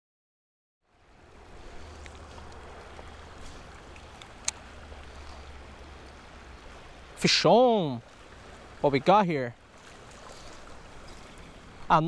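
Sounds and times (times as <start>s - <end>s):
creek water rushing: 0.9s - 12.0s.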